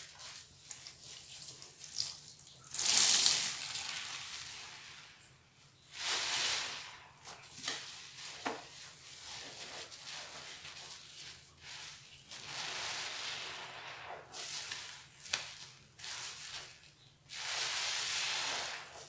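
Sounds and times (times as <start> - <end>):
sponge squishing in soapy water: 0.0 - 19.0.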